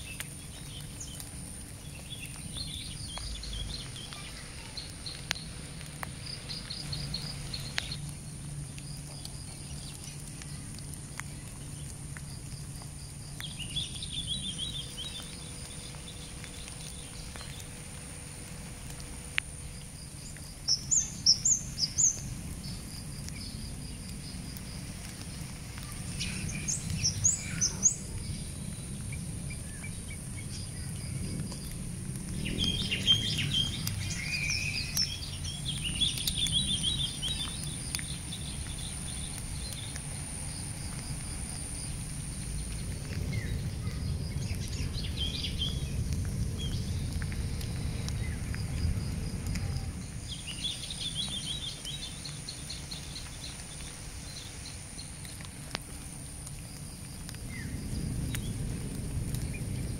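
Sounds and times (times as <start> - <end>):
wild birds chirping: 0.0 - 55.7
steady low rumble: 0.0 - 59.9.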